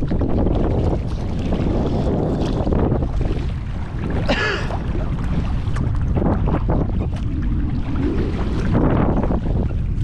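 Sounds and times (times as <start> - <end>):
water splashes: 0.0 - 10.0
wind buffeting microphone: 0.0 - 10.0.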